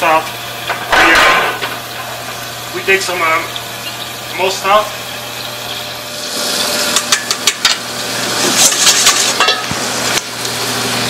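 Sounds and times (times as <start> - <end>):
kitchen exhaust hood hum: 0.0 - 11.0.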